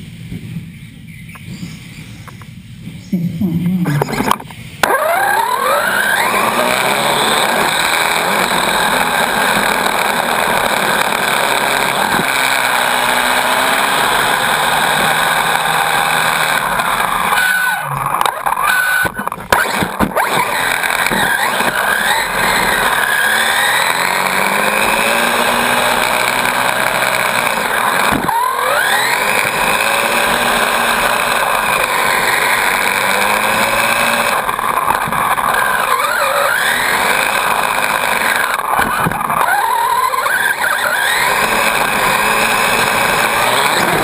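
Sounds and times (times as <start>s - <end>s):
tyre and track noise: 0.0s - 44.0s
electric motor whine: 3.9s - 44.0s.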